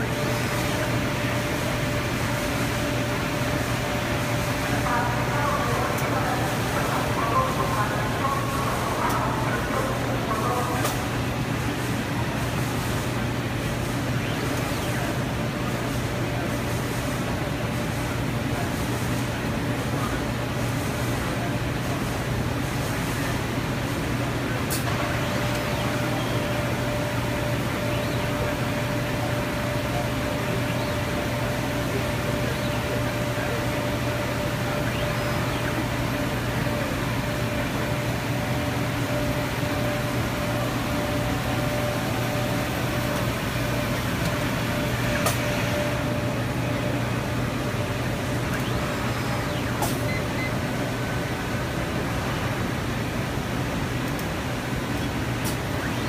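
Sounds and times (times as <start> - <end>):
assembly machinery humming: 0.0 - 56.0.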